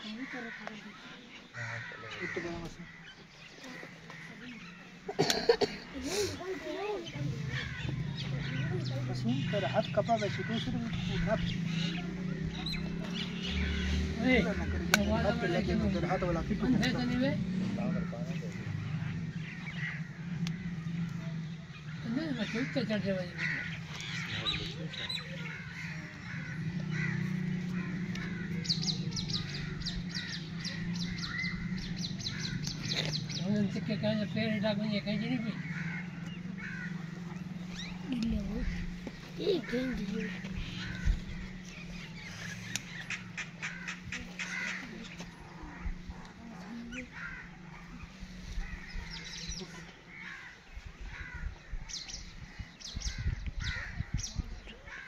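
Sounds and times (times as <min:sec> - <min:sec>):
caw-like bird calls: 0:00.0 - 0:05.8, 0:06.4 - 0:14.6, 0:17.8 - 0:33.7, 0:35.0 - 0:55.0.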